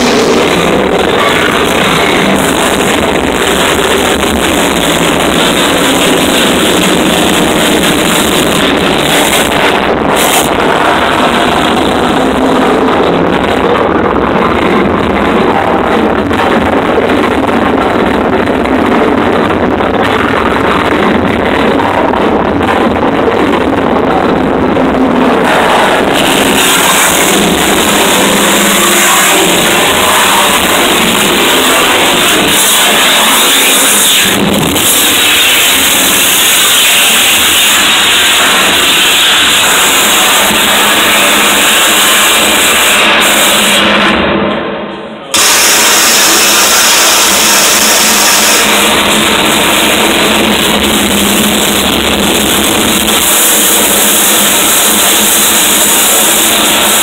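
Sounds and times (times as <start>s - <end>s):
distorted harsh noise music: 0.0s - 57.0s.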